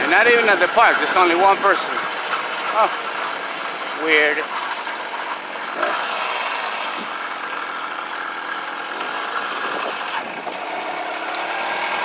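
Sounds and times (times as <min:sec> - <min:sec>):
small gasoline engine buzzing: 0:00.0 - 0:12.0.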